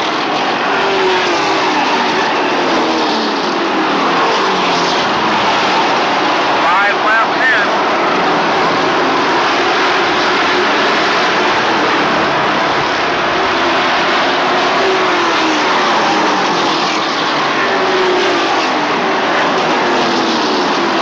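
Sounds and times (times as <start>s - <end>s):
race truck engines passing: 0.0s - 21.0s.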